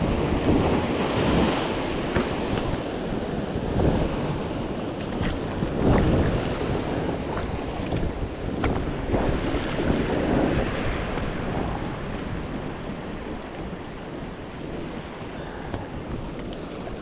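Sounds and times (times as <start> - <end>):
sea waves washing: 0.0 - 17.0
wind rumbling on microphone: 0.0 - 17.0.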